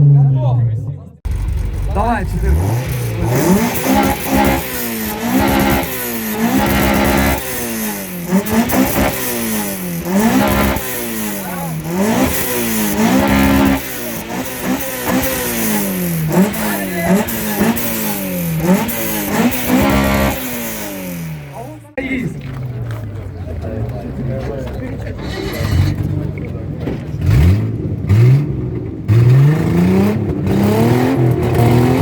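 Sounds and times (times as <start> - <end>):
car engine revving: 1.2 - 32.0.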